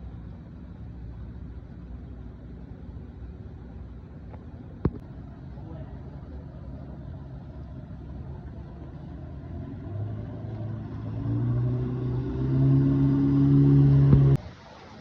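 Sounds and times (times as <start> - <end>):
engine running with low hum: 0.0 - 14.4.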